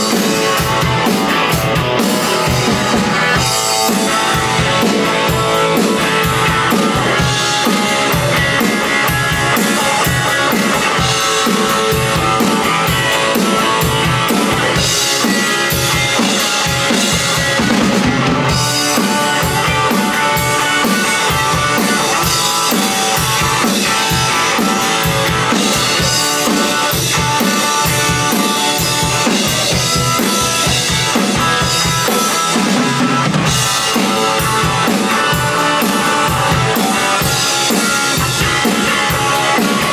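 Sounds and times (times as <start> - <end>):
drum kit rock beat: 0.0 - 39.9
electric guitar through tube amp: 0.0 - 39.9.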